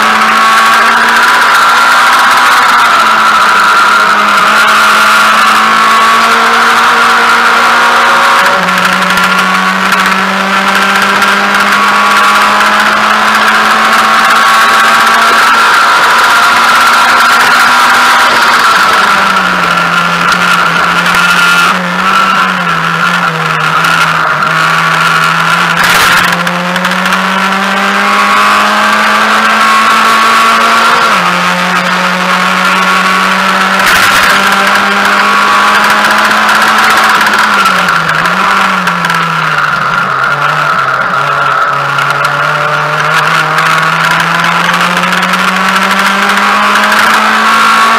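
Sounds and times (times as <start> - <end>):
race car engine at high revs: 0.0 - 47.9.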